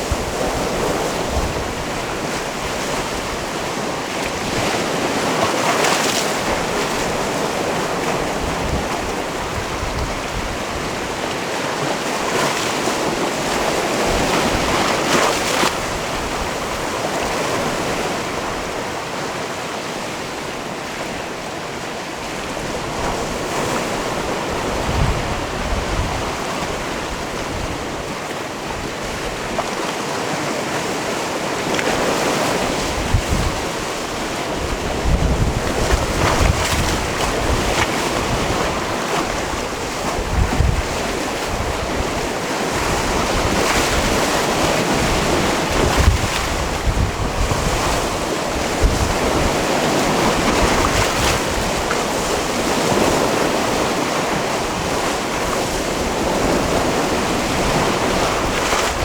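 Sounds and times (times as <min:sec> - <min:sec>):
wind rumble on microphone: 0:00.0 - 0:19.3, 0:22.2 - 0:29.8, 0:31.8 - 0:59.0
sea waves washing on rocks: 0:00.0 - 0:59.0.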